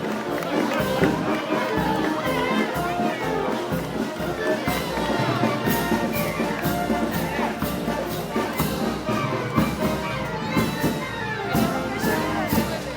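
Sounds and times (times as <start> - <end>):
brass band music: 0.0 - 12.9
steady percussion beat: 0.0 - 12.9.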